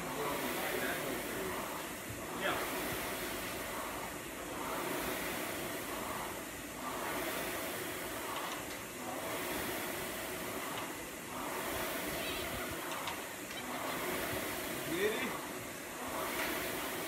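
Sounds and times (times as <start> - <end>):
rowing machine fan whooshing: 0.0 - 17.0.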